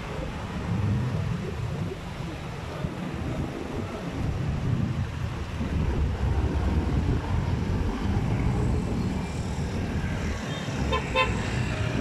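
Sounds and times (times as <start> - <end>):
steady traffic noise: 0.0 - 12.0
wind rumbling on microphone: 0.0 - 12.0.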